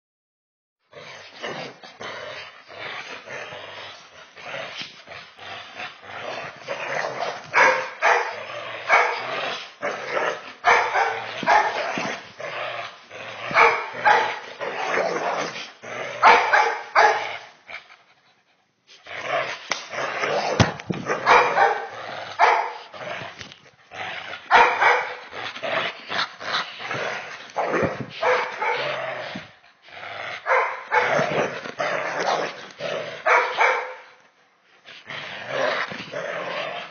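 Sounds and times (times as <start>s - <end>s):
dog growling and barking: 0.9s - 17.9s, 18.9s - 34.2s, 34.9s - 36.9s.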